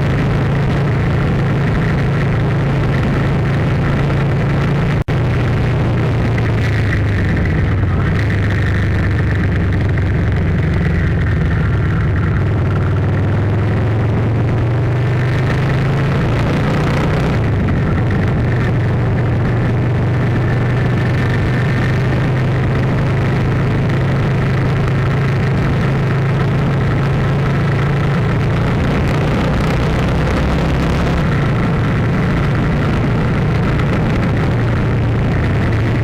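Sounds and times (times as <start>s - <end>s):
engine drone: 0.0s - 36.0s.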